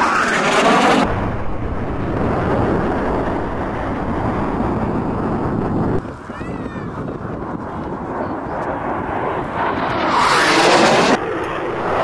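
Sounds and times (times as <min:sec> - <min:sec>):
jet roar flying past: 0:00.0 - 0:12.0.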